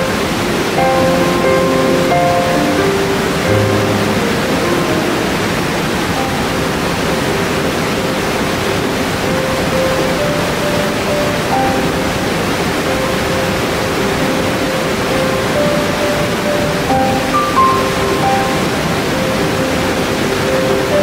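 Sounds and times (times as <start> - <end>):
soft sustained music notes: 0.0 - 21.0
waterfall rushing: 0.0 - 21.0.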